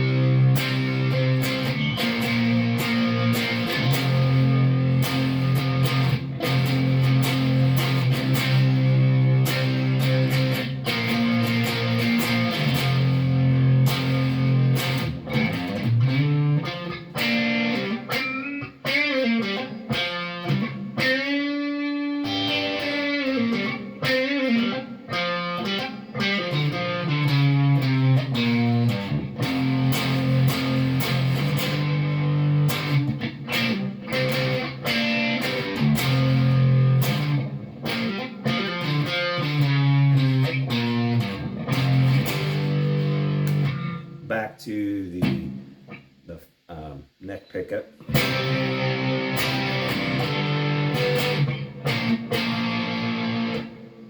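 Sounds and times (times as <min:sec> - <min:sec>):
electric guitar chords and notes: 0:00.0 - 0:46.9, 0:48.0 - 0:54.0.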